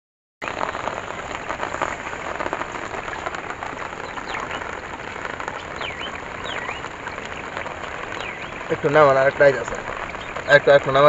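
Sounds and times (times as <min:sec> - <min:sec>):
water gushing into a net: 0:00.4 - 0:11.0.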